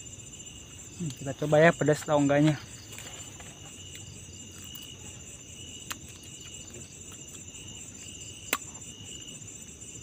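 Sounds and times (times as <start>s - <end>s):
crickets chirping: 0.0s - 10.0s
pulsing insect call: 0.0s - 10.0s.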